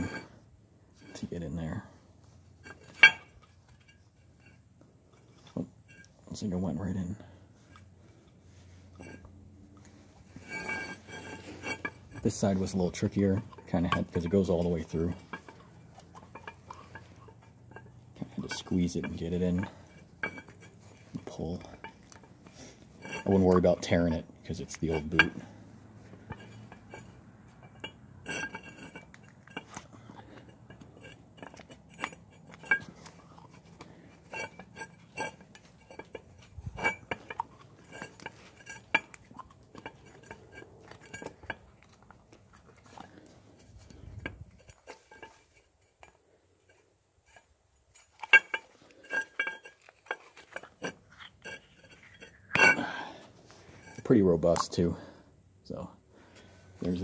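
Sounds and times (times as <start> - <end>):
low steady hum: 0.0 - 57.0
light metallic clinks and taps: 2.6 - 6.4, 8.6 - 55.0.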